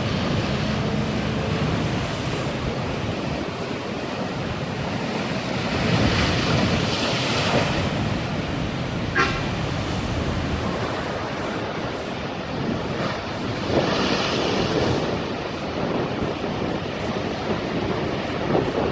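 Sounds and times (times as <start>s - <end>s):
surf washing against shore: 0.0s - 18.9s
wind buffeting microphone: 0.0s - 18.9s.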